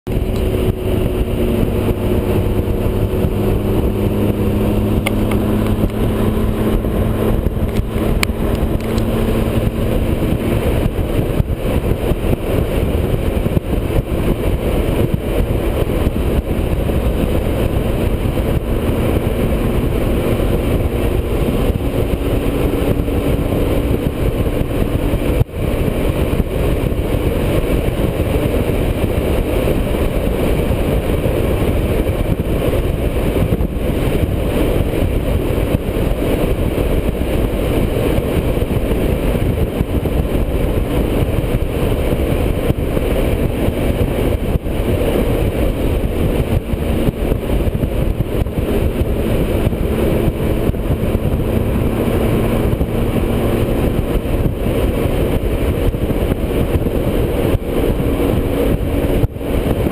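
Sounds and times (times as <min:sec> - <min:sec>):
motorcycle engine drone: 0:00.0 - 0:59.9
rushing wind and road noise: 0:00.0 - 0:59.9.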